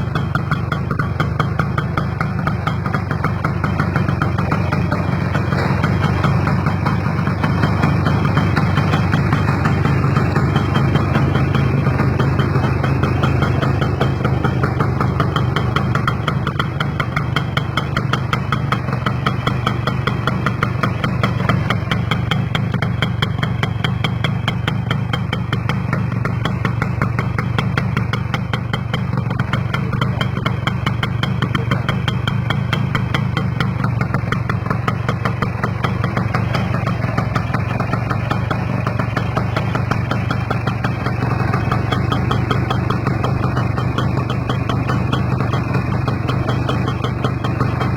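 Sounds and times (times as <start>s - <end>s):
motorcycle engine idling: 0.0s - 47.9s.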